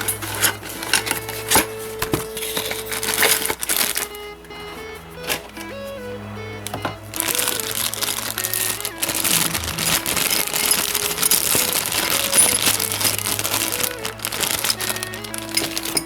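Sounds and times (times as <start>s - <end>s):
background music: 0.0s - 16.0s
plastic packaging crinkling: 0.0s - 16.0s.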